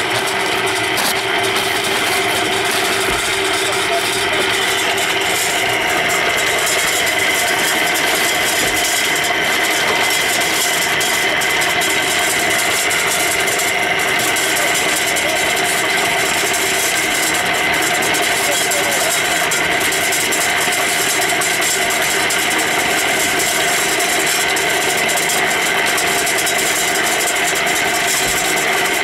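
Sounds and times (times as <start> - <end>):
concrete mixer running: 0.0 - 29.0.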